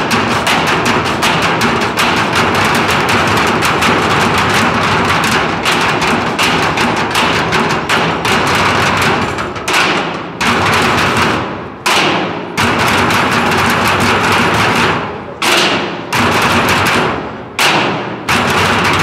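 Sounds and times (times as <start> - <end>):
drumming on steel drums and barrels: 0.0 - 19.0.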